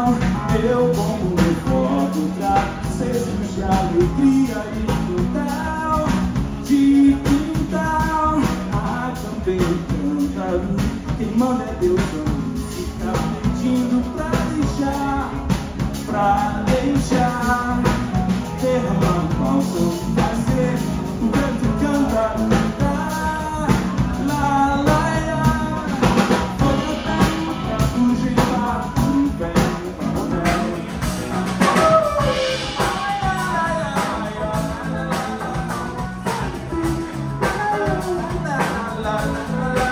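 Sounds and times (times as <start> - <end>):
drum kit beat: 0.0 - 39.9
live band playing: 0.0 - 39.9
person singing: 0.0 - 39.9.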